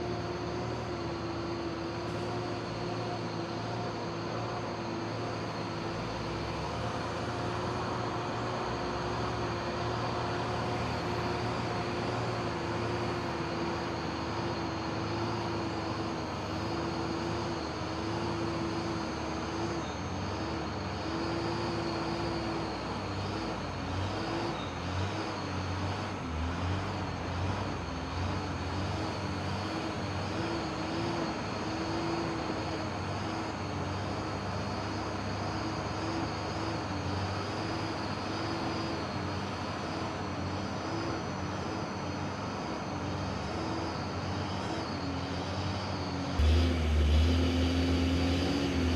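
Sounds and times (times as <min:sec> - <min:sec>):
truck diesel engine under load: 0:00.0 - 0:48.9.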